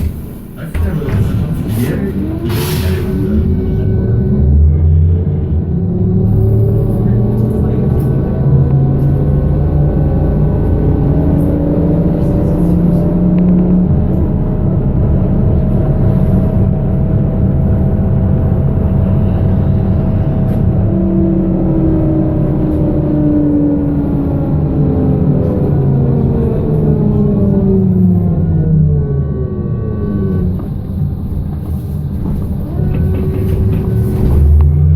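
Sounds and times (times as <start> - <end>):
road and body rumble: 0.0 - 34.9
trolleybus motor whine: 0.0 - 34.9.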